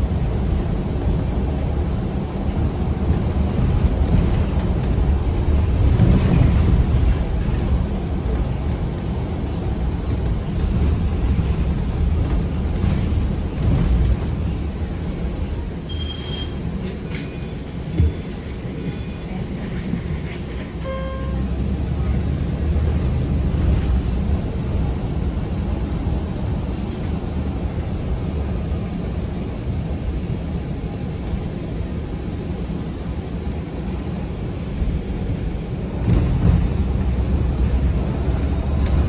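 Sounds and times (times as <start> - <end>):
bus cabin rumble: 0.0 - 39.0.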